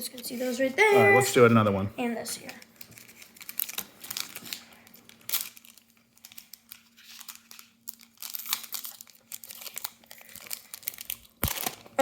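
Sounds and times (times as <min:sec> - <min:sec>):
plastic wrapping tearing and crinkling: 0:02.4 - 0:12.0.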